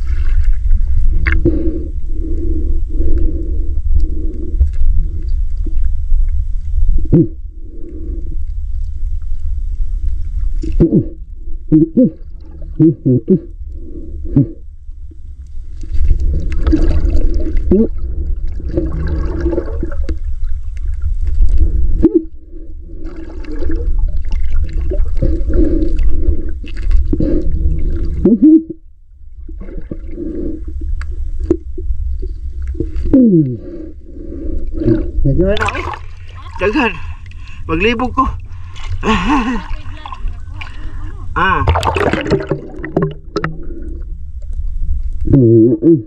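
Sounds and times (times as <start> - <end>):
water sloshing and gurgling: 0.0 - 45.3
low rumble: 0.0 - 46.0.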